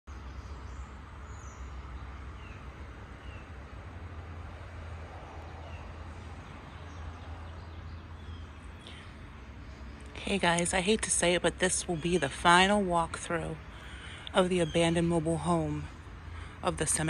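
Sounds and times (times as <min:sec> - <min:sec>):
steady low rumble: 0:00.1 - 0:17.0.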